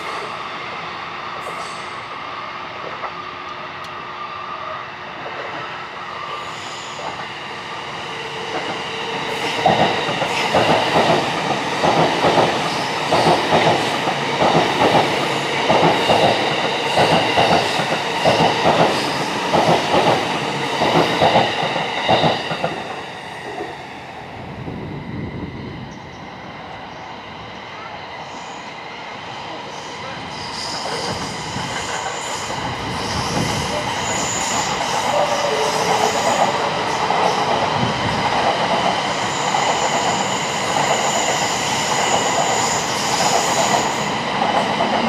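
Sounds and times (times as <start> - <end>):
electric train passing: 0.0 - 45.0.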